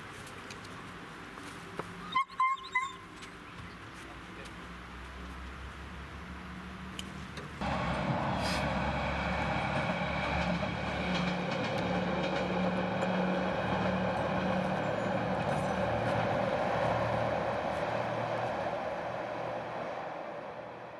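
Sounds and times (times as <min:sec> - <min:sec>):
vehicle rumble with low drone: 0:03.1 - 0:20.9.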